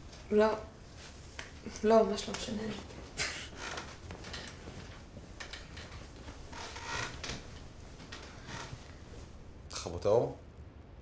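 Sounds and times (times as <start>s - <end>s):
bedsheets rustling: 0.0s - 9.5s.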